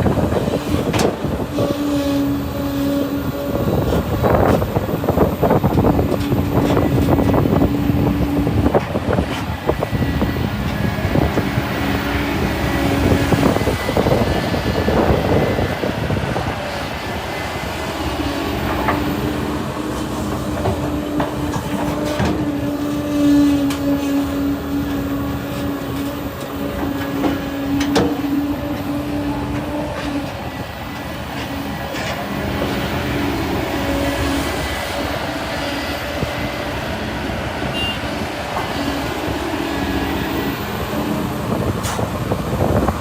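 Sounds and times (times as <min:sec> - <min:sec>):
diesel engine under load: 0:00.0 - 0:43.0
hydraulic whine: 0:00.0 - 0:43.0.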